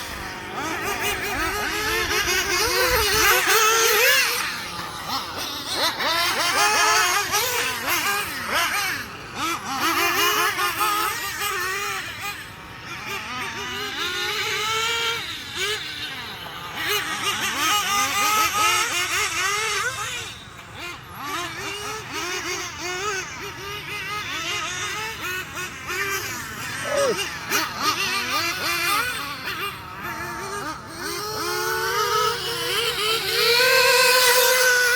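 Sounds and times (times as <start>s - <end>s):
nitro engine revving: 0.0s - 34.9s.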